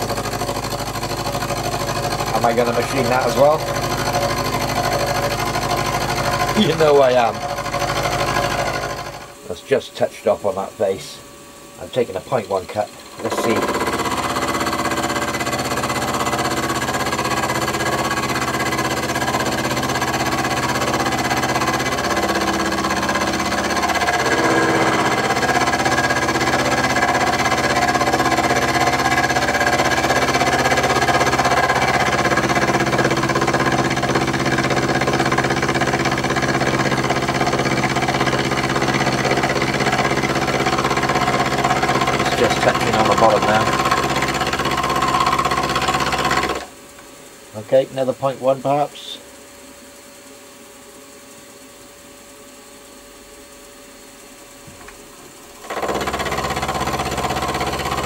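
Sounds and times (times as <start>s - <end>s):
milling machine whine: 0.0s - 58.0s.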